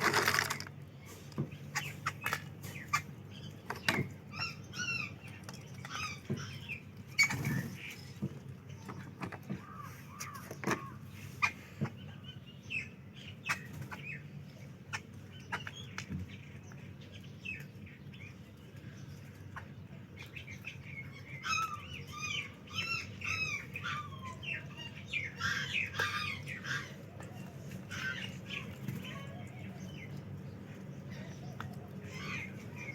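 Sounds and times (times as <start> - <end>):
low background hum: 0.0 - 32.9
small birds chirping: 0.0 - 32.9.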